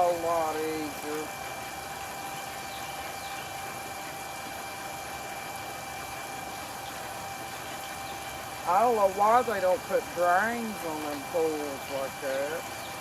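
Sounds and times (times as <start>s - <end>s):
water pump humming with whine: 0.0s - 13.0s.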